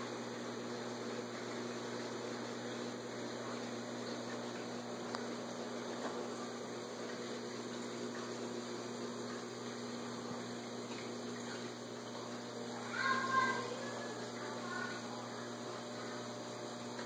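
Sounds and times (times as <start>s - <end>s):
aquarium filter pump humming: 0.0s - 17.0s
moving water: 0.0s - 17.0s.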